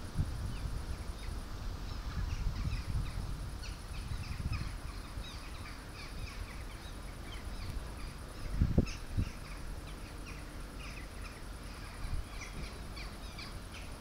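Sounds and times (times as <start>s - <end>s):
low gusty rumble: 0.0s - 14.0s
small birds chirping: 0.0s - 14.0s.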